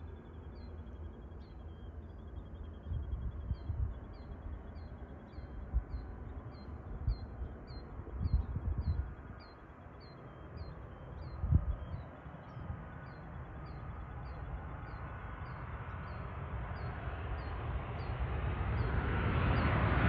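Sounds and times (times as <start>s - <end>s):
wind rumble on microphone: 2.4s - 20.0s.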